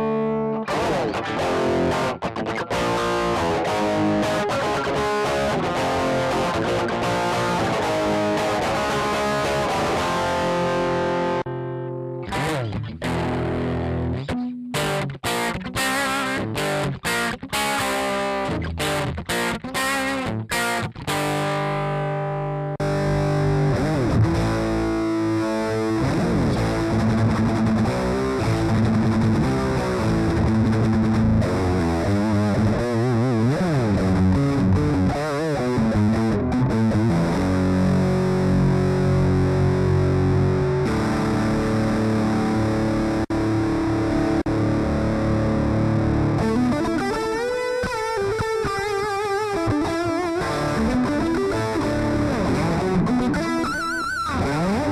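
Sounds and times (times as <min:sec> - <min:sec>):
distorted electric guitar: 0:00.0 - 0:54.9.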